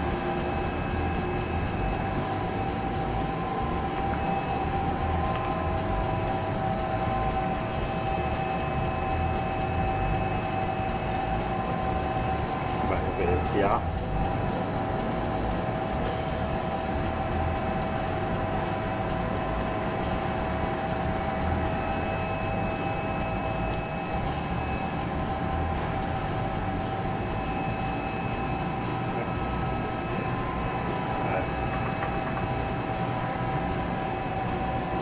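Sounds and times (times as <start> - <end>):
lathe humming: 0.0 - 35.0
steady whining tones: 0.0 - 35.0.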